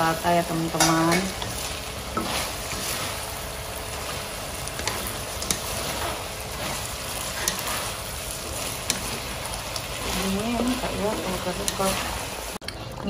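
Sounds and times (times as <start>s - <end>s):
sauce sizzling in a wok: 0.0s - 13.0s
spatula stirring food: 0.6s - 13.0s.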